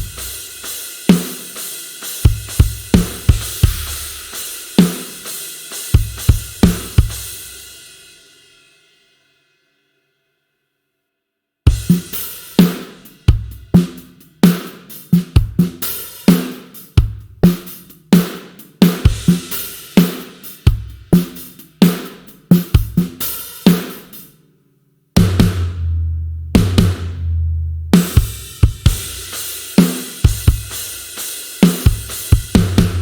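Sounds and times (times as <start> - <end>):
rock drum kit beat: 0.0 - 8.1, 11.7 - 24.4, 25.2 - 27.2, 27.9 - 33.0.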